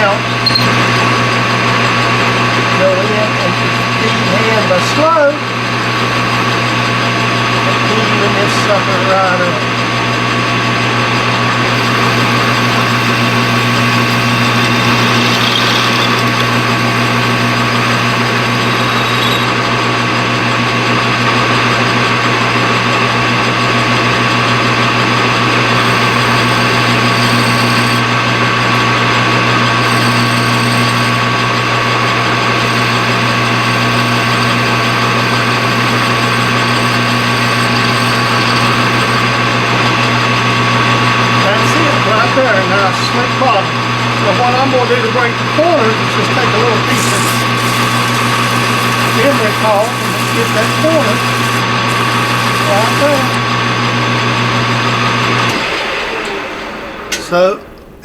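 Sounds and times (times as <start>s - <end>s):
machine tool motor hum: 0.0s - 58.0s.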